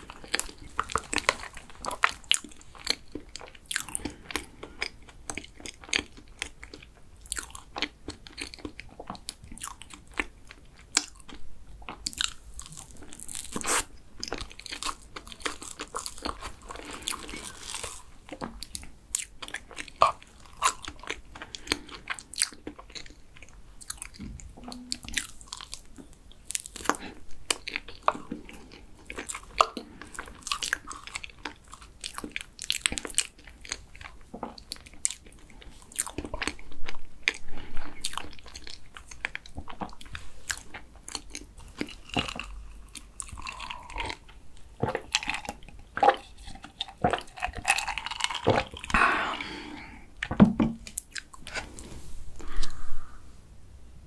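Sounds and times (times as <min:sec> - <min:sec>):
chewing and wet mouth sounds: 0:00.0 - 0:53.1.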